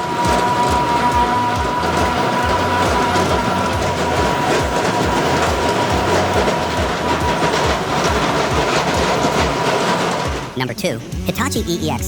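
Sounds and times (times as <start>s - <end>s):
heavy machinery rumbling: 0.0s - 12.0s
rhythmic train-like clatter: 0.0s - 12.0s.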